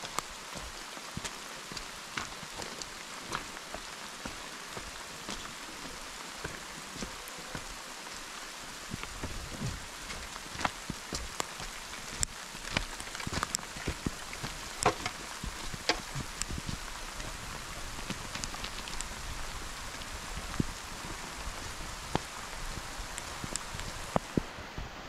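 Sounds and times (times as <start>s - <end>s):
sharp taps of raindrops: 0.0s - 7.7s, 8.8s - 24.5s
rain hissing on rocky ground: 0.0s - 25.0s.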